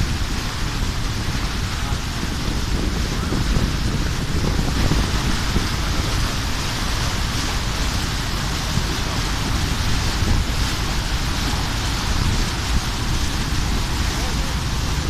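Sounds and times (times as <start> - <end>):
rushing wind and water: 0.0 - 15.0
wind buffeting microphone: 0.0 - 15.0.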